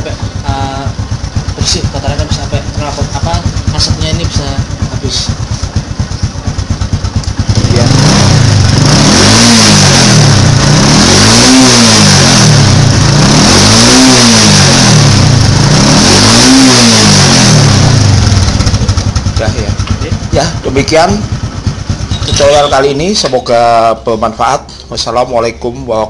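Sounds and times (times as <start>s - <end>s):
motorcycle engine revving: 0.0s - 24.5s.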